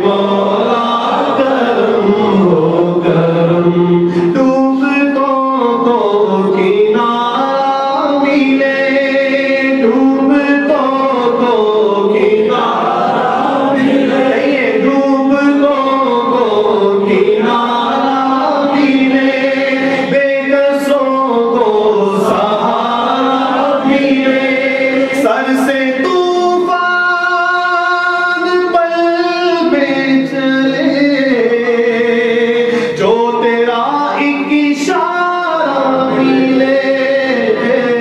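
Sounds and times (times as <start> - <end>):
man chanting: 0.0 - 12.9, 13.8 - 38.0.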